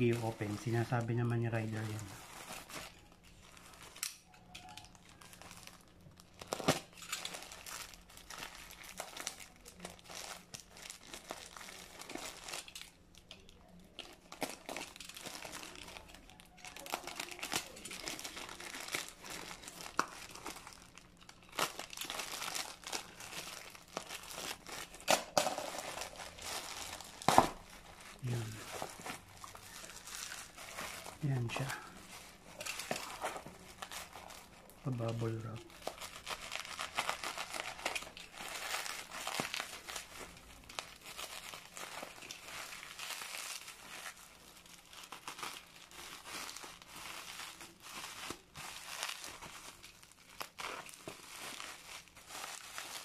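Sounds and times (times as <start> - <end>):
plastic mailer crinkling and tearing: 0.0 - 53.0.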